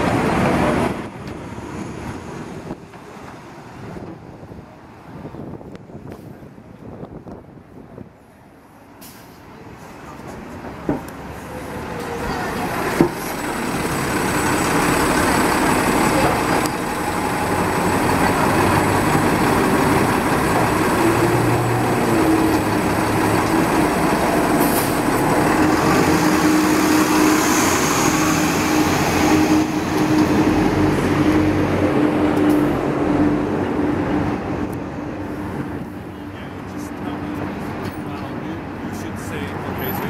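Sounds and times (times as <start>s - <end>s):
bus engine running: 0.0s - 40.0s.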